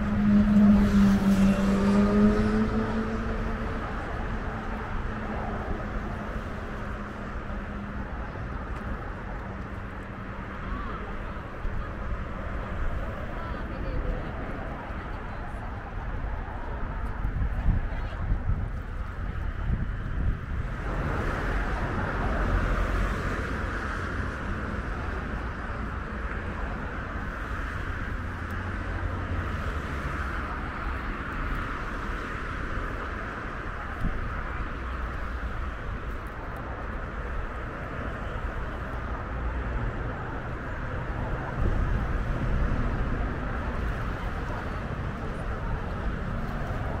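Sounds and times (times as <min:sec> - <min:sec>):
wind buffeting microphone: 0:00.0 - 0:29.7, 0:30.5 - 0:47.0.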